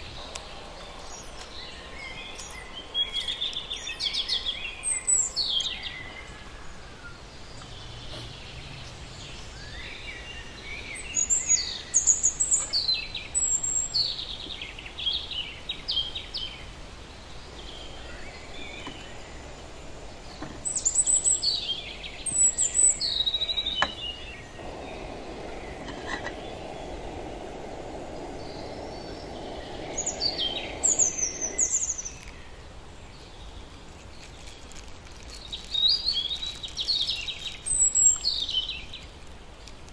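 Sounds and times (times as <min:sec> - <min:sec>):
birds chirping: 0:00.0 - 0:39.7
outdoor background hum: 0:00.0 - 0:39.9.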